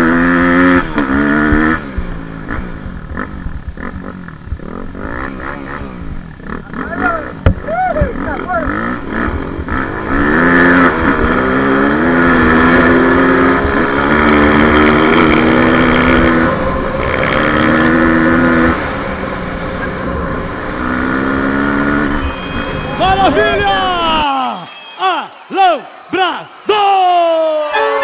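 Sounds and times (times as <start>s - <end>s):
motorcycle engine: 0.0s - 26.6s.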